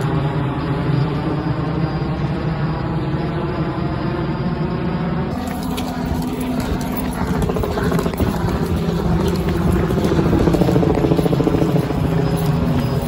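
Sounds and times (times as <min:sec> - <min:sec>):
helicopter rotor beating: 0:00.0 - 0:13.0
steady hum: 0:00.0 - 0:13.0.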